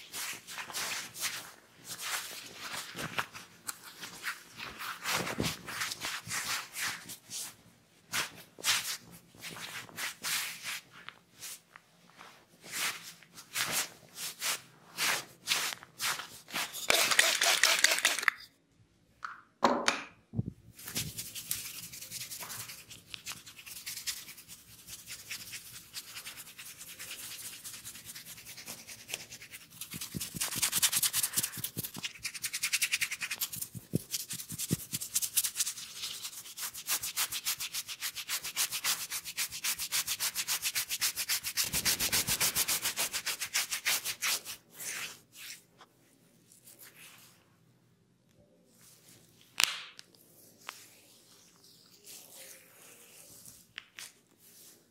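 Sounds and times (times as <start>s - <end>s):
hands rubbing scalp and hair: 0.1s - 18.3s, 20.8s - 45.9s, 46.5s - 47.4s, 50.3s - 54.9s.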